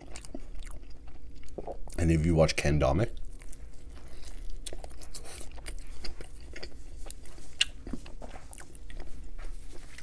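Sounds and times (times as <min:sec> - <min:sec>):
man chewing pizza: 0:00.0 - 0:02.2, 0:03.1 - 0:10.0.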